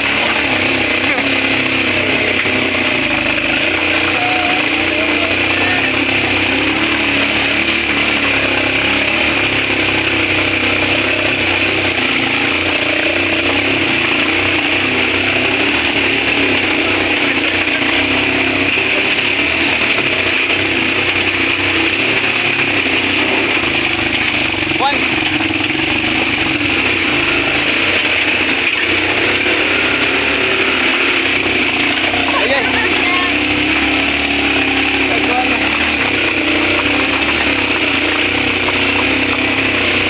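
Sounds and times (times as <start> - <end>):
road and wind noise: 0.0 - 40.0
small motorcycle engine running: 0.0 - 40.0.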